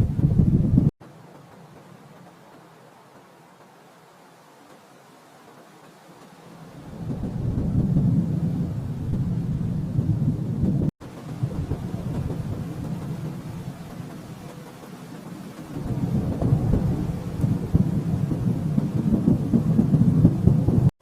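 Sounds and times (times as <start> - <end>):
distant thunder rumbling: 0.0 - 3.9, 5.6 - 20.9.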